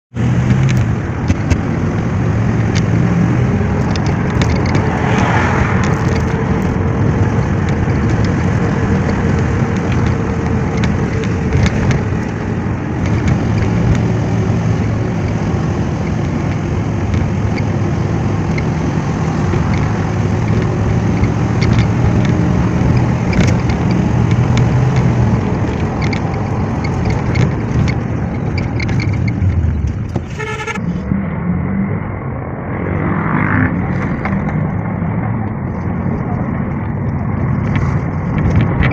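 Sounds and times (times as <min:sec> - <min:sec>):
low engine hum: 0:00.1 - 0:38.9
road noise: 0:00.1 - 0:38.9.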